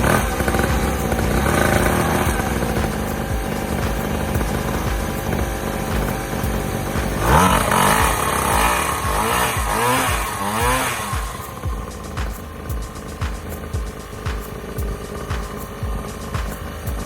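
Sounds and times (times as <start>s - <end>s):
small motorbike engine revving: 0.0s - 17.0s.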